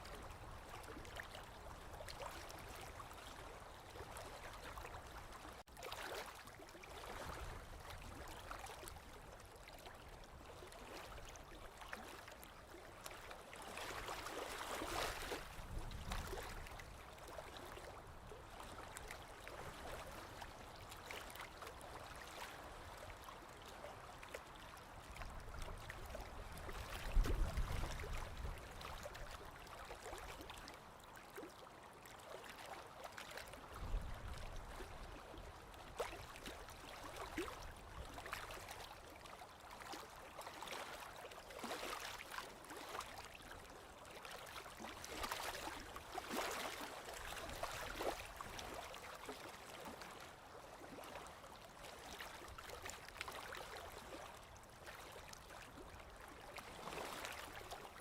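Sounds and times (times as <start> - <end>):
small waves lapping on shore: 0.0 - 58.0.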